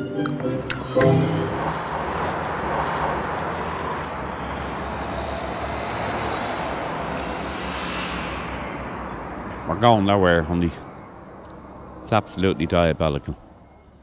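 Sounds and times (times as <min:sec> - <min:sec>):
passing vehicles rumble and hiss: 0:00.0 - 0:14.0.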